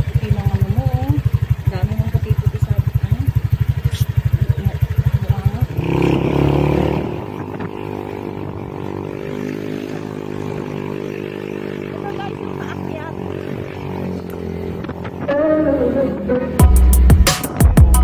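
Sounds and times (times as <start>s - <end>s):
motorcycle engine: 0.0s - 18.0s.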